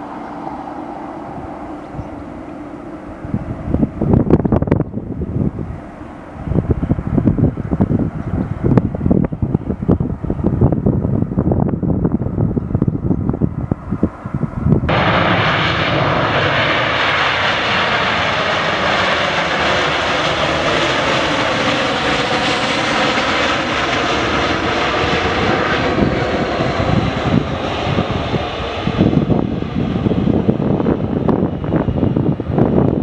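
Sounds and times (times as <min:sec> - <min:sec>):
jet engines running: 0:00.0 - 0:33.0
wind gusts on microphone: 0:00.0 - 0:33.0.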